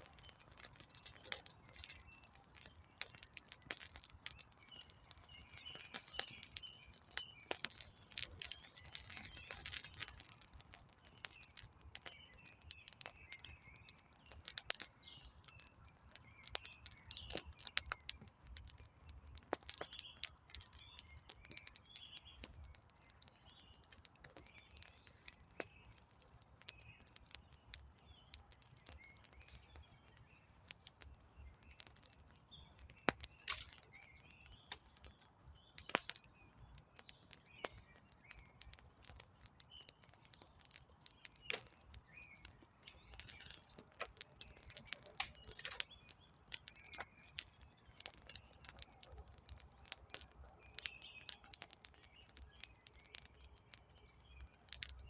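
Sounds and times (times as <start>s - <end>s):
campfire crackling: 0.0s - 55.0s
small birds chirping: 0.0s - 55.0s.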